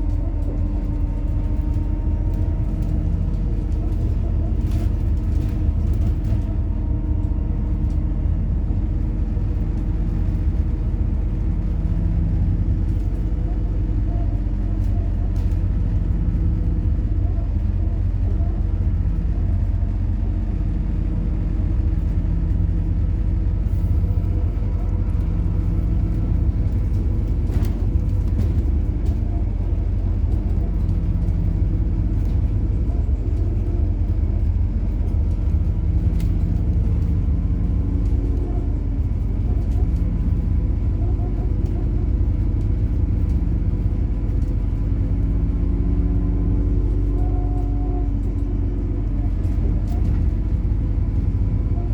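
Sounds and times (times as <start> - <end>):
bus engine drone: 0.0 - 51.9
road noise: 0.0 - 51.9.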